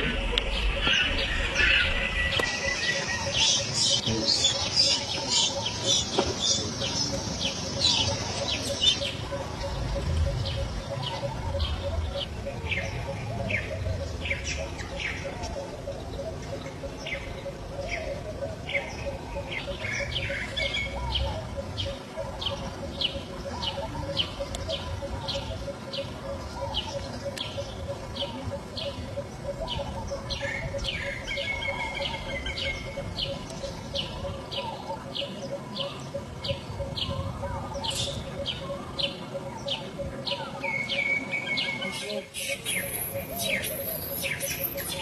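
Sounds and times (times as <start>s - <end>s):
bird chirping: 0.0s - 45.0s.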